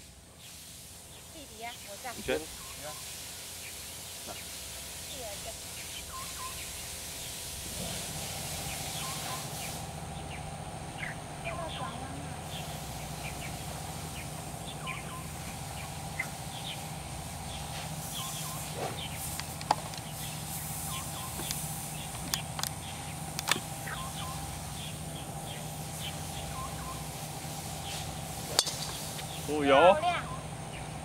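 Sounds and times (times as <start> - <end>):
steady low hum: 0.0 - 31.0
birds chirping: 0.3 - 31.0.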